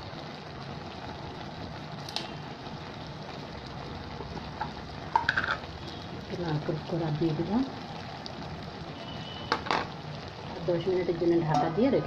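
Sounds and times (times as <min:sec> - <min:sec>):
curry simmering with hiss: 0:00.0 - 0:12.0.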